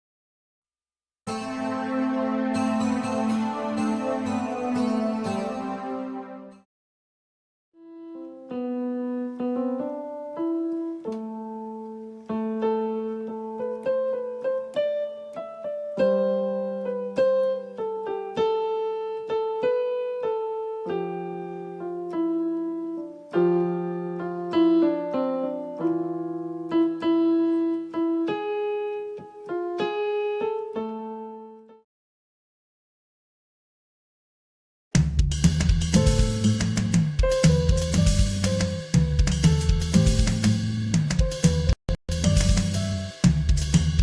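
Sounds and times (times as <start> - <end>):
piano-like keyboard melody: 1.3 - 6.7, 8.0 - 31.8, 35.9 - 44.0.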